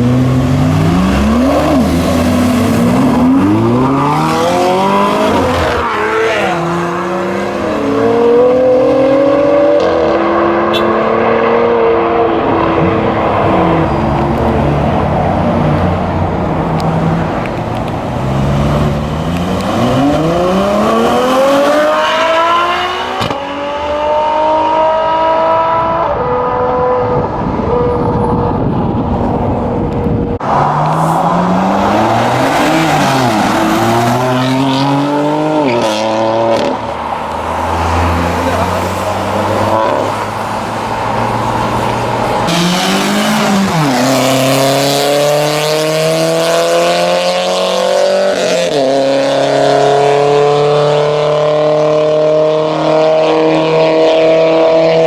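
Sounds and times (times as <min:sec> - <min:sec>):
sports car engines accelerating: 0:00.0 - 0:55.0.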